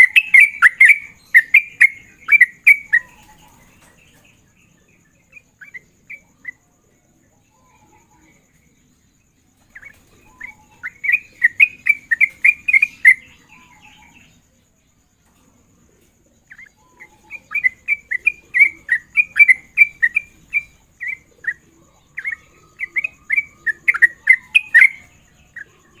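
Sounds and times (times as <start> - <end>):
bulbul chattering song: 0.0 - 26.0.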